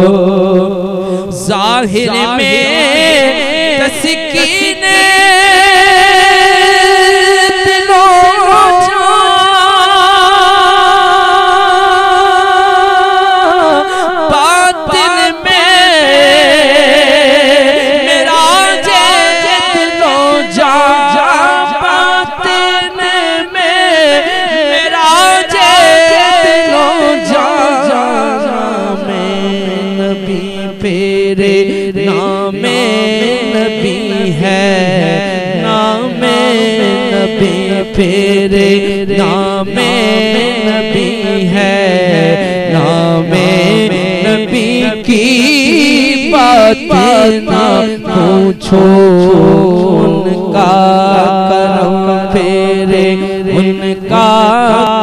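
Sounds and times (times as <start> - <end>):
man singing into microphone: 0.0 - 55.0.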